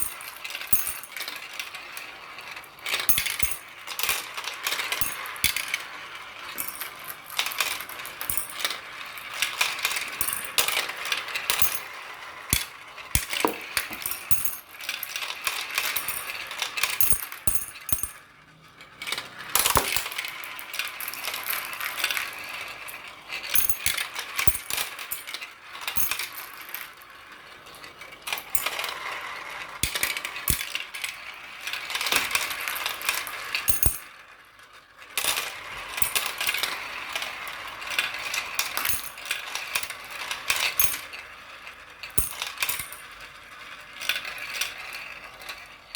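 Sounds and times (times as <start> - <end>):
marbles rolling and clattering: 0.0 - 18.3, 19.0 - 34.2, 35.1 - 45.8.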